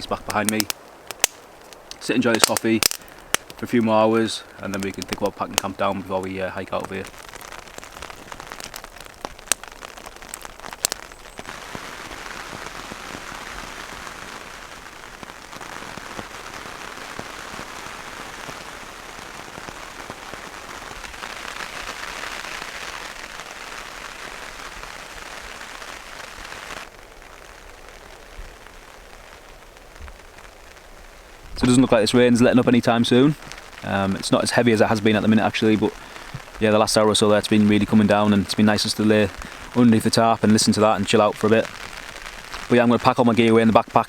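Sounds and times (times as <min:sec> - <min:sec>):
rain pattering on a tarp: 0:00.0 - 0:44.0.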